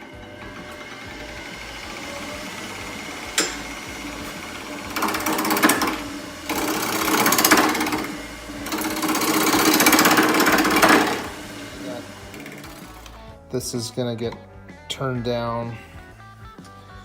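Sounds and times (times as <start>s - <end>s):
gouge scraping spinning wood: 0.0s - 14.1s
wood lathe humming: 0.0s - 14.2s.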